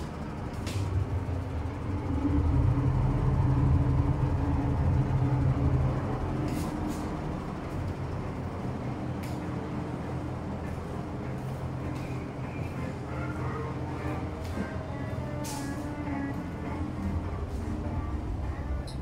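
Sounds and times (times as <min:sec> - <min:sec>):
ship engines droning: 0:00.0 - 0:19.0.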